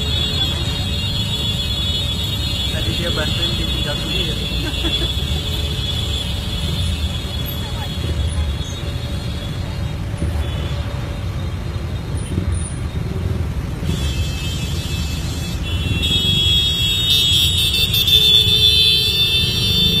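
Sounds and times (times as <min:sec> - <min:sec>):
traffic engine rumble: 0:00.0 - 0:20.0.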